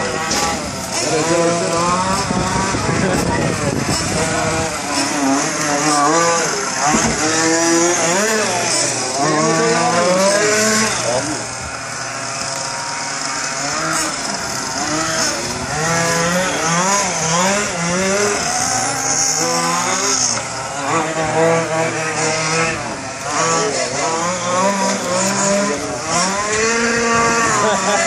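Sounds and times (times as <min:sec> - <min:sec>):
small two-stroke engines revving: 0:00.0 - 0:28.0.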